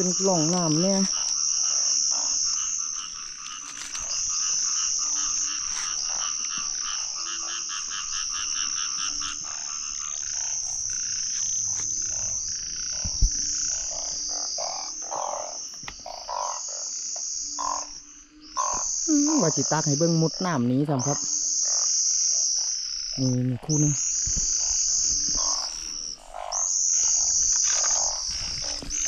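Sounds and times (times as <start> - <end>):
frogs calling: 0.0 - 29.0
insects shrilling: 0.0 - 29.0.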